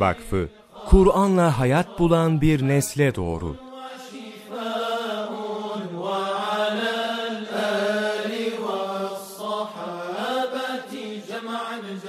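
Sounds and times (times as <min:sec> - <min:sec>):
person chanting a hymn: 0:00.0 - 0:12.0.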